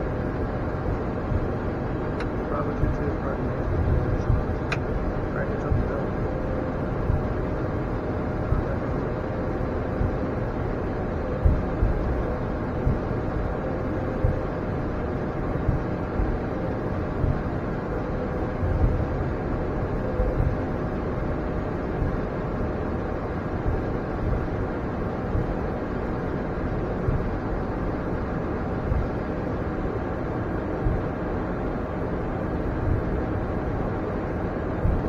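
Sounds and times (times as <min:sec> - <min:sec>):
jet cockpit rumble and hiss: 0:00.0 - 0:35.0.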